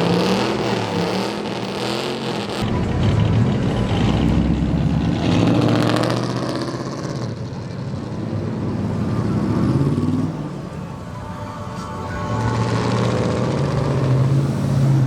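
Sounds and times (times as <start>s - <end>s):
cars driving past: 0.0s - 11.2s, 11.8s - 15.0s.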